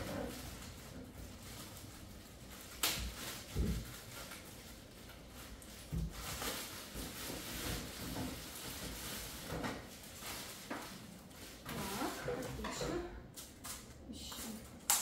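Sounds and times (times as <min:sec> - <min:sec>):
shopping bags rustling: 0:00.0 - 0:13.6.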